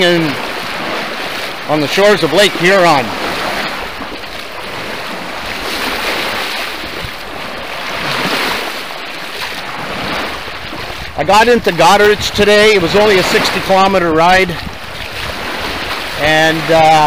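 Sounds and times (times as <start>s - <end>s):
small waves washing onto shore: 0.0s - 17.0s.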